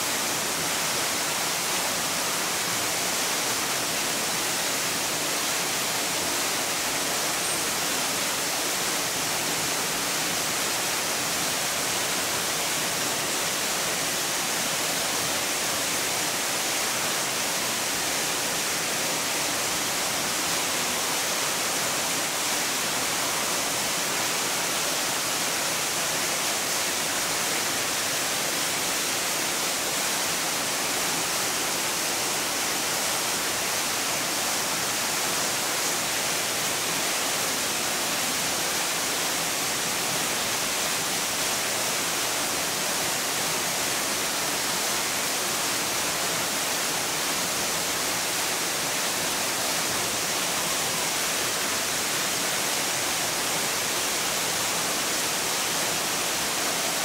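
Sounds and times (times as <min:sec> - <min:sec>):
hiss of falling water: 0:00.0 - 0:57.0.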